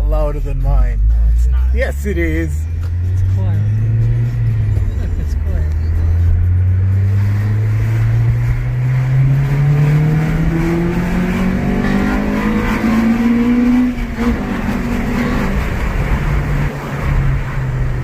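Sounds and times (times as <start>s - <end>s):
car engine accelerating hard: 1.9s - 18.0s.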